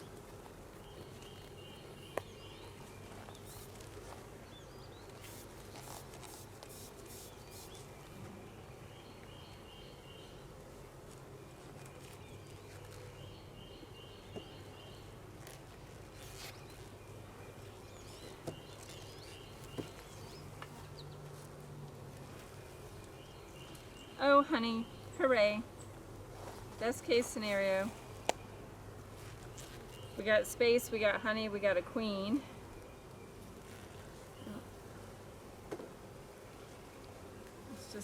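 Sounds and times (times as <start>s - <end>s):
honeybees humming: 0.0s - 38.0s.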